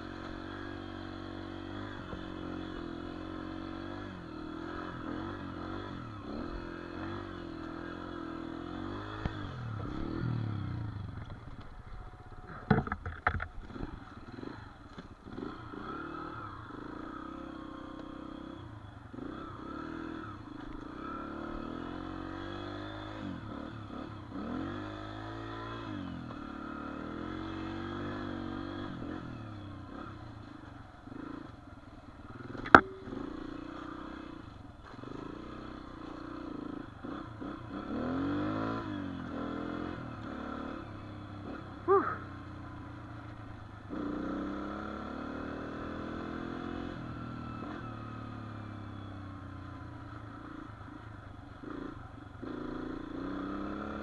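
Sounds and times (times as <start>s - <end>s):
dirt bike engine revving: 0.0s - 11.3s, 13.6s - 54.0s.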